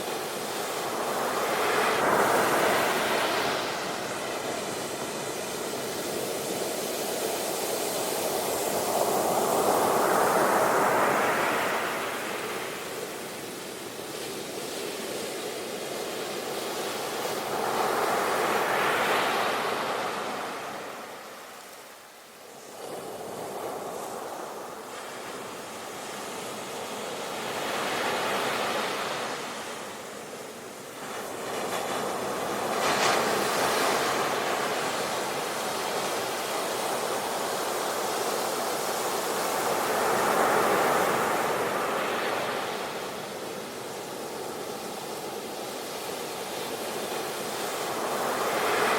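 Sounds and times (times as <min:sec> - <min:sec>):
ocean waves washing onto shore: 0:00.0 - 0:48.9.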